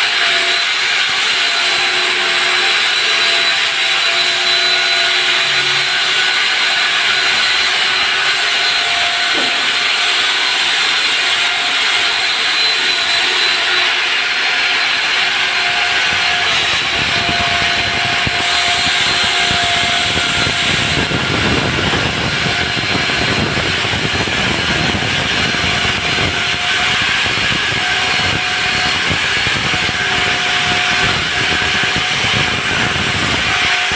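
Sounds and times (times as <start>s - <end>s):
core drill whining: 0.0s - 33.9s
low grinding rasp: 0.0s - 33.9s.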